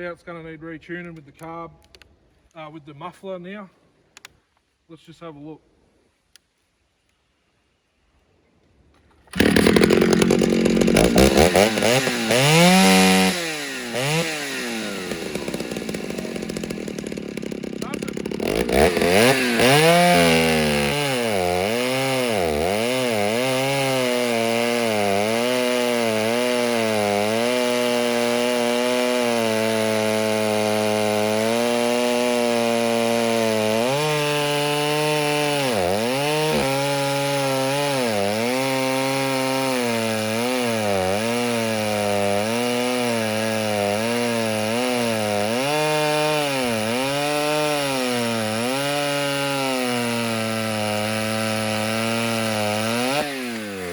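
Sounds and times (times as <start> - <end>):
chainsaw cutting wood: 9.2 - 53.9.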